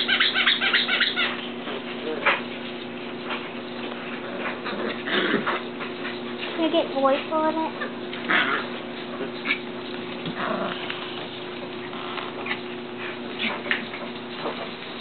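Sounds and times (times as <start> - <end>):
puppy noises: 0.0 - 15.0
puppies scuffling: 0.1 - 15.0.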